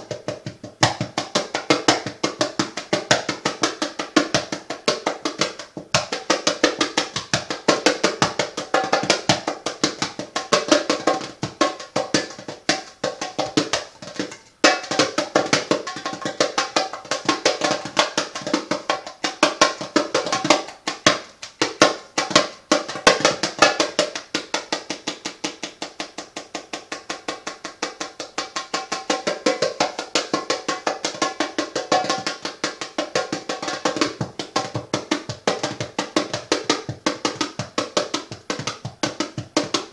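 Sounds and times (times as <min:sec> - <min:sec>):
hand drum fast rhythm: 0:00.0 - 0:39.9.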